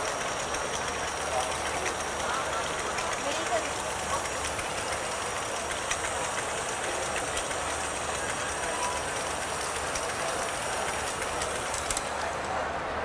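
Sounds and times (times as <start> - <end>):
stand mixer whisking: 0.0 - 12.7
crowd chatter: 0.0 - 13.0.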